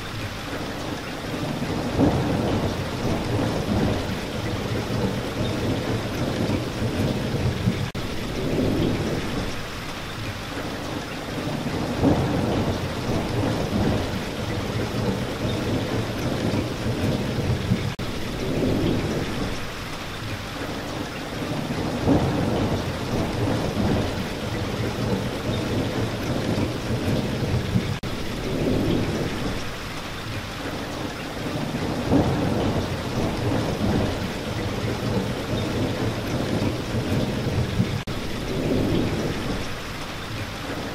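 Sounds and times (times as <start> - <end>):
heavy rain: 0.0 - 40.9
rolling thunder: 1.4 - 9.6, 11.3 - 19.8, 21.4 - 29.8, 31.4 - 39.9.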